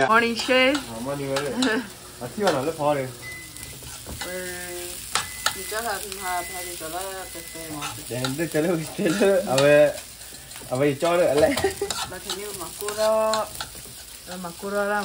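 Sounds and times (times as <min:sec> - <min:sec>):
rice sizzling in frying pan: 0:00.0 - 0:15.0
fork scraping pan: 0:00.3 - 0:05.7, 0:07.4 - 0:15.0.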